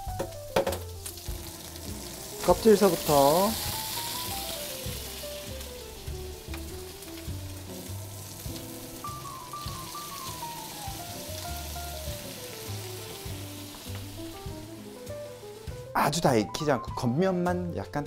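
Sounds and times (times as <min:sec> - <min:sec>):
fish frying in butter: 0:00.0 - 0:16.9
background music melody: 0:00.0 - 0:18.0.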